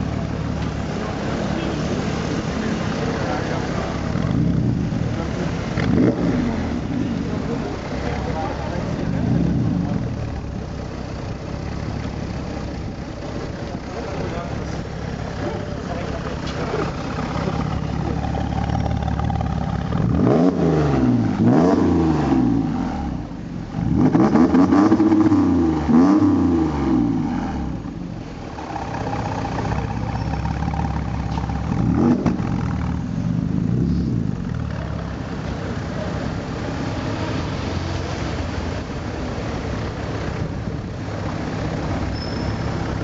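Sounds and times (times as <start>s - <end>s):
car engine revving: 0.0s - 43.0s
street traffic: 0.0s - 43.0s.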